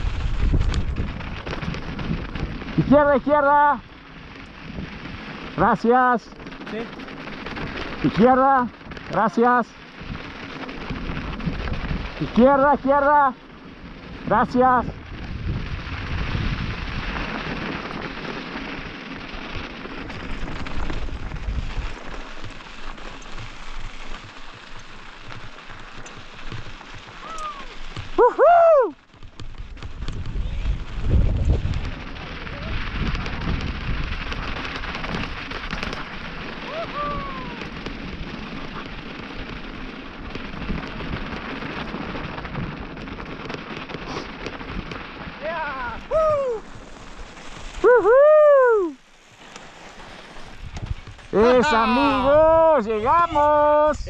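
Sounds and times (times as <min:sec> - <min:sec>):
stones ticking: 0:00.0 - 0:47.9
wind buffeting microphone: 0:00.0 - 0:49.2, 0:50.0 - 0:54.0
bike tyres crunching on gravel: 0:00.0 - 0:54.0.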